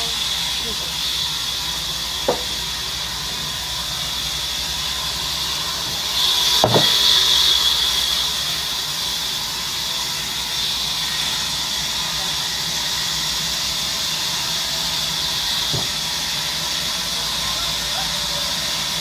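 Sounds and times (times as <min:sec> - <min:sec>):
band saw cutting log: 0:00.0 - 0:19.0.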